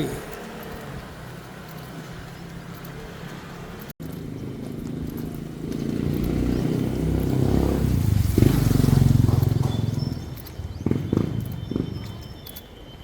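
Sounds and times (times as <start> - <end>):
vehicle engine running: 0.0 - 12.3.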